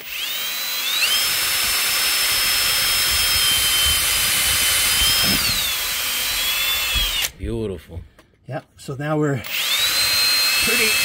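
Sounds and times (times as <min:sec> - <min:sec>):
cordless drill drilling metal: 0:00.0 - 0:07.4, 0:09.4 - 0:11.0.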